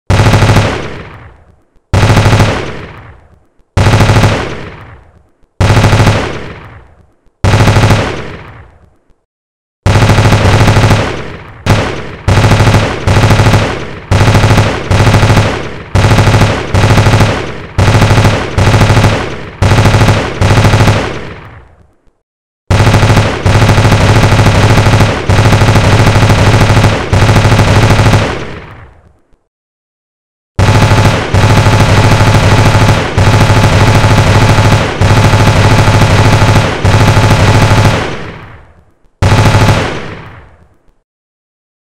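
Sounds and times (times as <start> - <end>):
machine-gun fire bursts: 0.1 - 8.7, 9.8 - 21.6, 22.7 - 29.0, 30.6 - 40.6.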